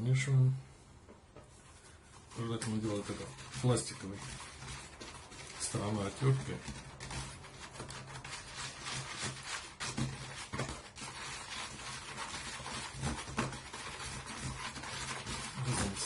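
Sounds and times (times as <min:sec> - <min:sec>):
stirring scraping in container: 0:01.5 - 0:16.0.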